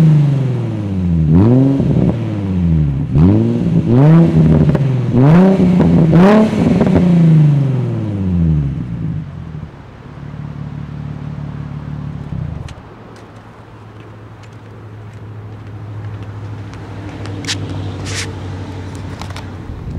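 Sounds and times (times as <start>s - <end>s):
car engine revving and idling: 0.0s - 19.9s.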